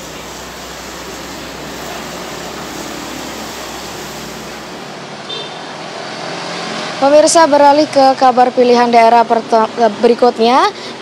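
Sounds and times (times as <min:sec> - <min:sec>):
fire rushing noise: 0:00.0 - 0:09.0.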